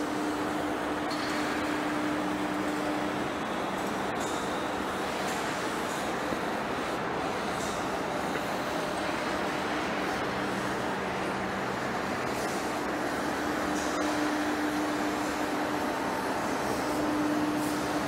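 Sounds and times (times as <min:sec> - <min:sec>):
lathe running hum: 0:00.0 - 0:18.0.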